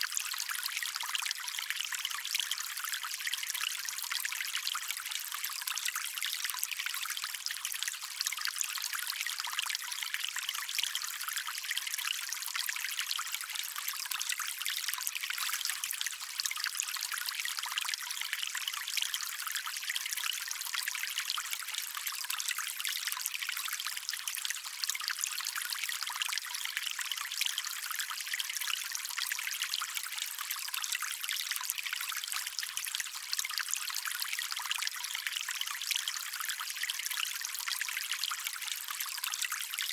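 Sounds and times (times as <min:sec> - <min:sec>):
stream water trickling over stones: 0:00.0 - 0:39.9.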